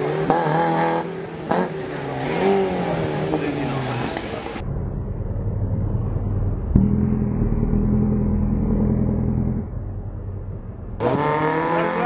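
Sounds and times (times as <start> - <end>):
rally car engine running: 0.0 - 12.0.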